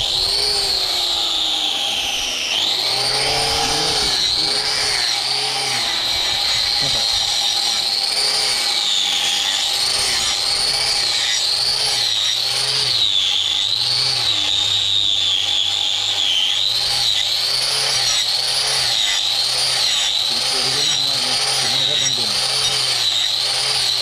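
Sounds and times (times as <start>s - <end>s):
power tool whining: 0.0s - 24.0s.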